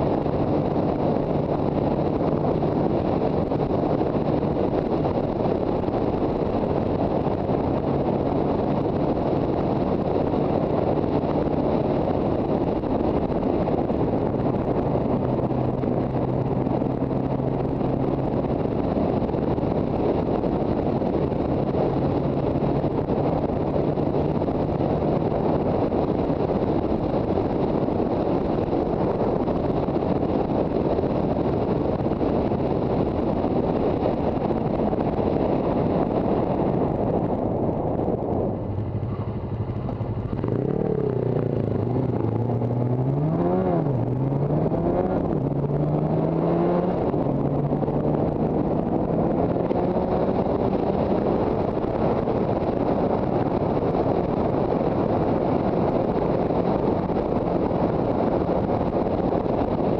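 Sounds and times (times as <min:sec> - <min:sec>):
two-stroke motorcycle engine cruising: 0:00.0 - 0:59.9
wind buffeting microphone: 0:00.0 - 0:59.9.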